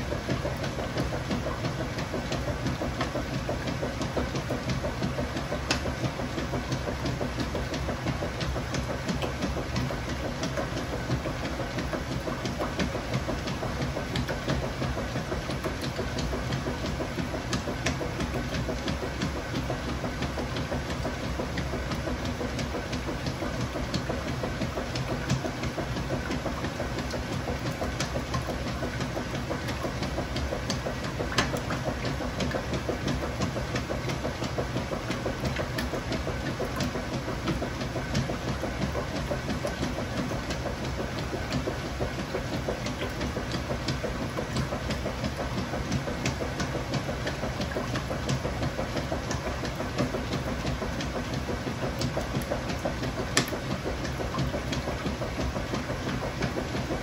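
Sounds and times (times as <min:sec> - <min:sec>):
washing machine drone with clicks: 0:00.0 - 0:57.0.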